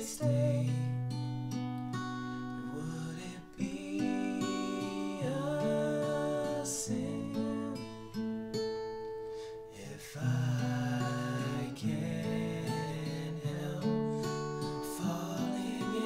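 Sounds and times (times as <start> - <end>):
men singing a slow ballad: 0.0 - 1.0, 2.6 - 8.2, 9.7 - 16.0
acoustic guitar strummed slowly: 0.0 - 16.0.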